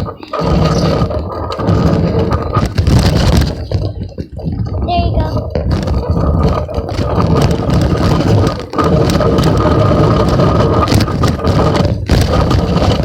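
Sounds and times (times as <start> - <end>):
phone rattling in basket: 0.0 - 13.0
tyres on pavement: 0.0 - 13.0
wind rumble: 0.0 - 13.0.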